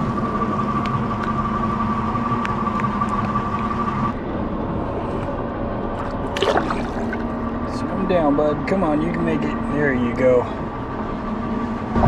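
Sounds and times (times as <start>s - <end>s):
outboard motor idling hum: 0.0s - 11.9s.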